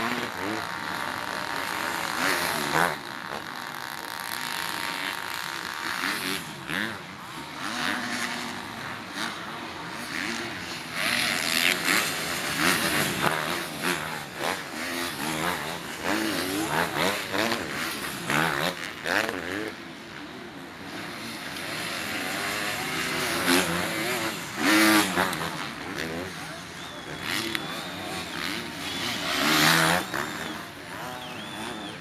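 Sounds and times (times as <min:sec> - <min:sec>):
motocross motorcycle engines revving: 0:00.0 - 0:32.0.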